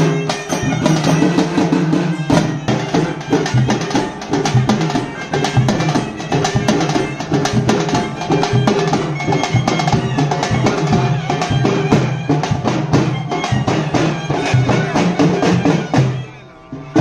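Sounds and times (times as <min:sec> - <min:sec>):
drums beaten in fast rhythm: 0:00.0 - 0:17.0
wind instrument holding notes: 0:00.0 - 0:17.0.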